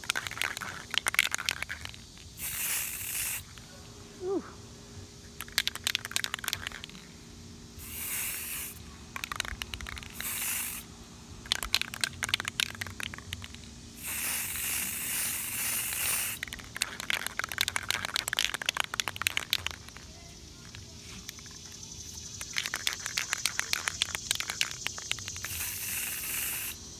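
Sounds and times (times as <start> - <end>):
rapid clicking rattle: 0.0 - 3.6, 5.4 - 7.1, 7.8 - 10.8, 11.4 - 26.8
spray paint can hissing: 0.0 - 3.7, 5.4 - 7.1, 7.7 - 26.9.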